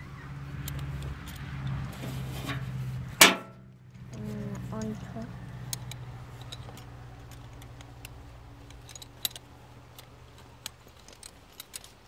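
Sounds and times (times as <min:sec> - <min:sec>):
metal buckles clicking and rattling: 0:00.4 - 0:12.0.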